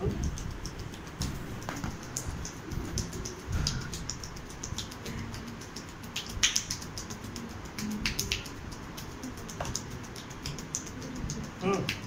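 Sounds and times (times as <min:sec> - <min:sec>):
hands slapping claps: 0:00.0 - 0:12.0.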